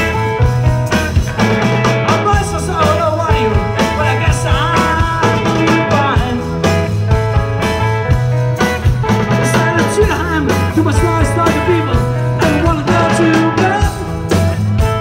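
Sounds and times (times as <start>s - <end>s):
electric guitar bending notes: 0.0s - 15.0s
rock and roll band playing: 0.0s - 15.0s.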